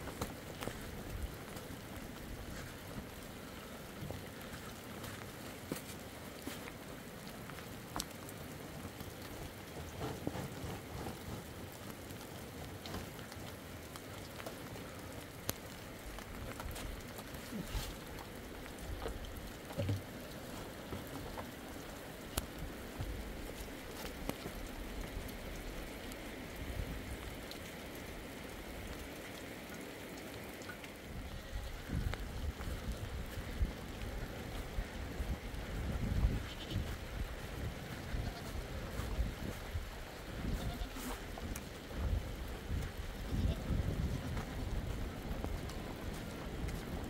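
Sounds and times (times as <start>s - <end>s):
raindrops ticking nearby: 0.0s - 47.0s
steady rain falling: 0.0s - 47.0s.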